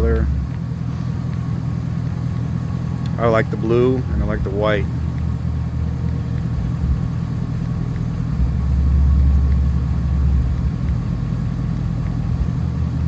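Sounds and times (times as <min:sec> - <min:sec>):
deep low drone: 0:00.0 - 0:13.0
pickup engine idling: 0:00.0 - 0:13.0.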